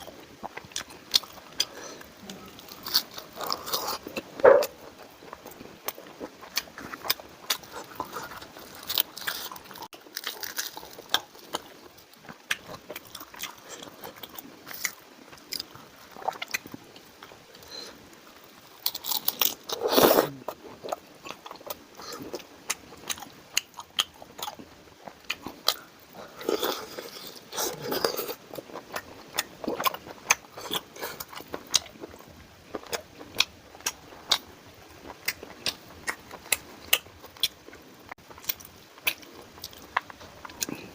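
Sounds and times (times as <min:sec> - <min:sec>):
chewing and crunching: 0:00.0 - 0:40.9.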